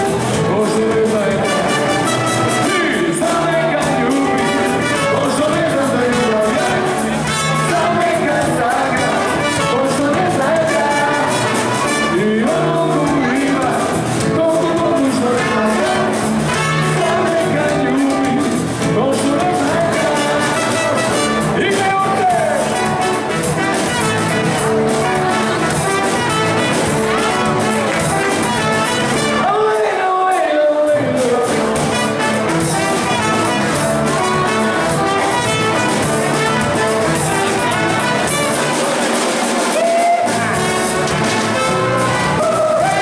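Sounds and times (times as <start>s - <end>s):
electric and acoustic guitars: 0.0s - 30.0s, 30.9s - 43.0s
drum kit beat: 0.0s - 43.0s
trumpets and saxophone melody: 0.0s - 43.0s.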